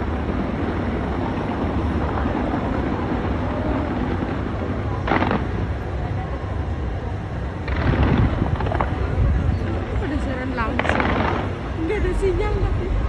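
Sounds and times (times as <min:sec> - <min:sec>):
sharp crackle: 0:00.0 - 0:06.4, 0:07.6 - 0:12.0
murmur of crowd: 0:00.0 - 0:13.0
wind on microphone: 0:00.0 - 0:13.0.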